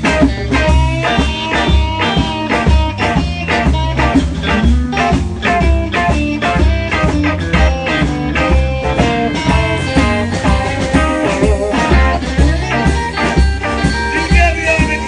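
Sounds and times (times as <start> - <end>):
blues band playing: 0.0 - 15.0
electric guitar lines: 0.0 - 15.0.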